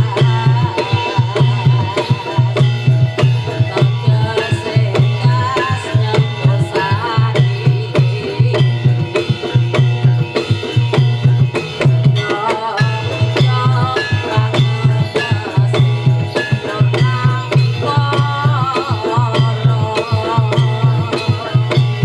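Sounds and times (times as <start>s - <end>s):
hand drums fast rhythm: 0.0s - 22.0s.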